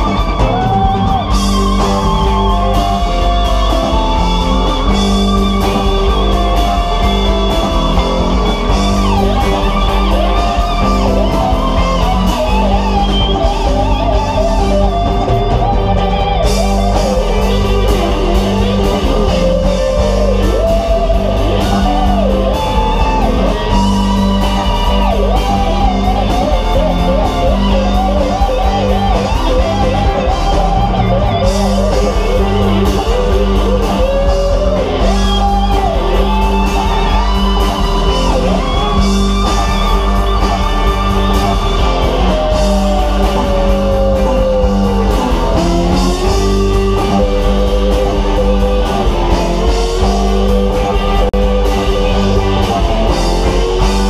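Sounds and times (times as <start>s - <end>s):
bass guitar: 0.0s - 54.0s
drums: 0.0s - 54.0s
electric guitars: 0.0s - 54.0s
keyboards: 0.0s - 54.0s
sliding bending lead melody: 0.0s - 54.0s.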